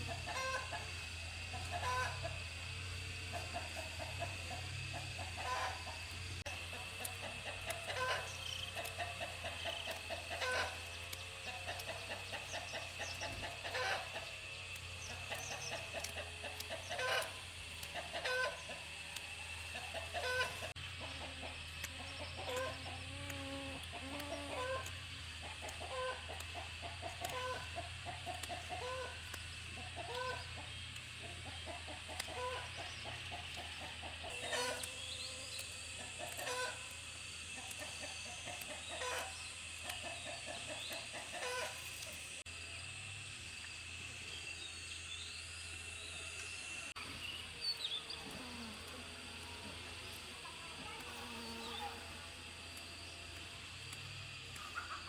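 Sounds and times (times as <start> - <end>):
chickens clucking: 0.0 - 42.5, 46.6 - 55.0.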